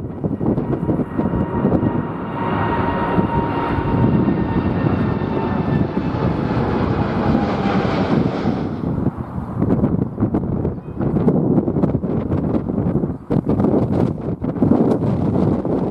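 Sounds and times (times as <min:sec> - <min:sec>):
jet engines whining: 0:00.0 - 0:13.4
wind buffeting microphone: 0:00.0 - 0:15.9.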